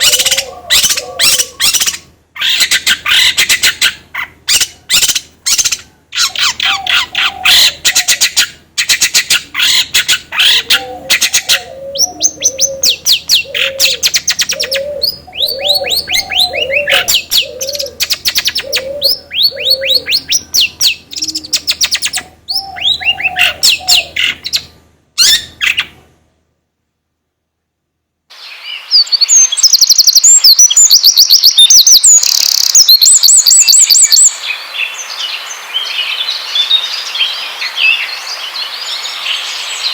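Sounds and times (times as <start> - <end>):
songbird chatter and whistles: 0.0 - 25.9, 28.3 - 39.9
lower repeated bird call: 0.0 - 26.0, 28.3 - 39.9.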